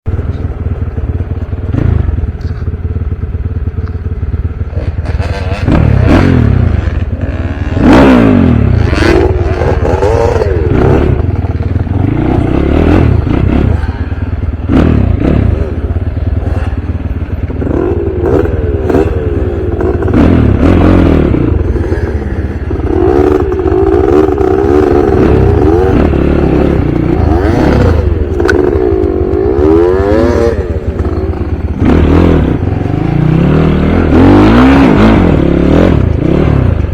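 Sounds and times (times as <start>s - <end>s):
clatter: 0.1s - 36.9s
dirt bike engine revving: 4.4s - 36.9s.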